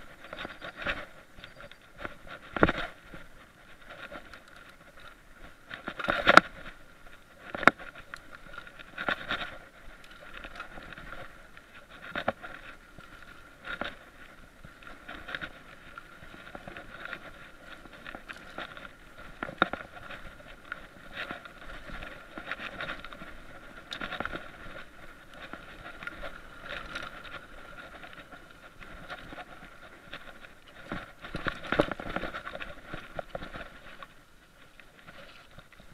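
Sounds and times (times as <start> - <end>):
bike rattling on dirt trail: 0.0 - 35.9
faint whine: 0.0 - 35.9.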